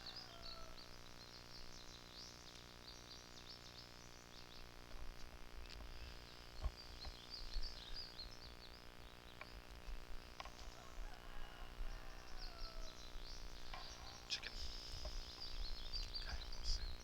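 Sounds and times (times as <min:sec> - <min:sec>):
birds chirping and singing: 0:00.0 - 0:05.0, 0:05.6 - 0:17.0.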